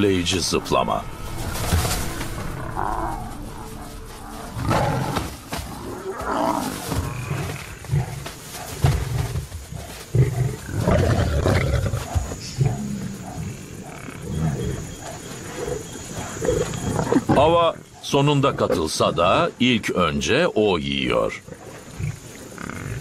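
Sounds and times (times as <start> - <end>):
lions growling: 0.0 - 19.6, 21.3 - 23.0.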